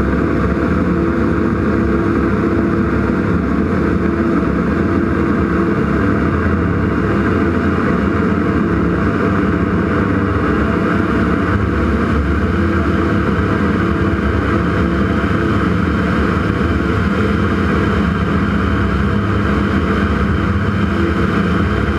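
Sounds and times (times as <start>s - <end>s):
airplane engine and propeller: 0.0s - 21.9s.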